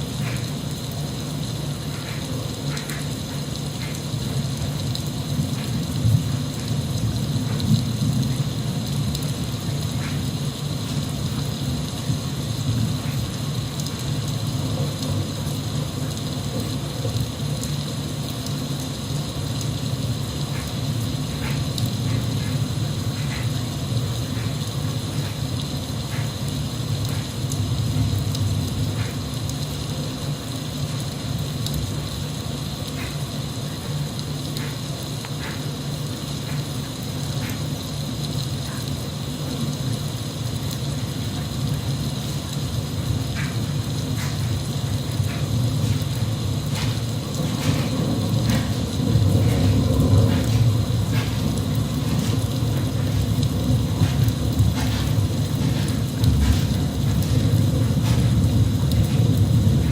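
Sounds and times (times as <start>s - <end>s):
raindrops ticking: 0.0s - 59.9s
steady rain hiss: 0.0s - 59.9s.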